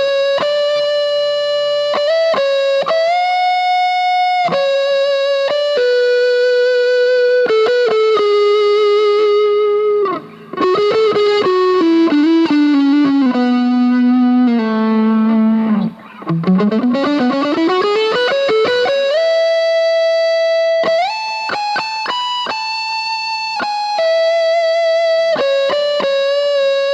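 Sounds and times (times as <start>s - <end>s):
electric guitar lead line: 0.0s - 26.9s.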